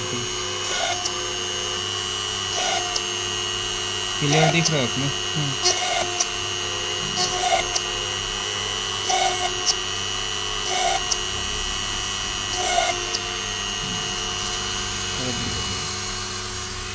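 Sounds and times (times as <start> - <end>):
drill bit cutting circuit board: 0.0 - 16.9
small drill motor whine: 0.0 - 16.9.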